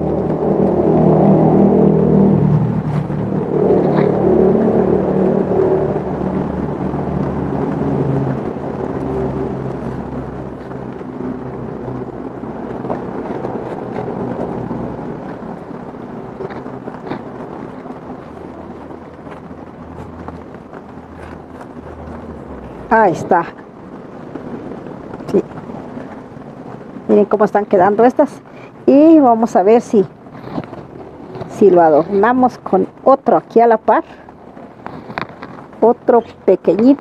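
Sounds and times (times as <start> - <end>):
low engine drone: 0.0 - 37.0.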